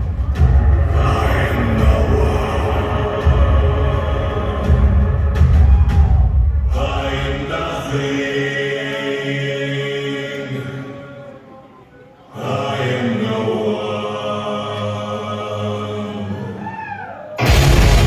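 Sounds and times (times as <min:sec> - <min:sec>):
choral chant over loudspeakers: 0:00.0 - 0:18.0.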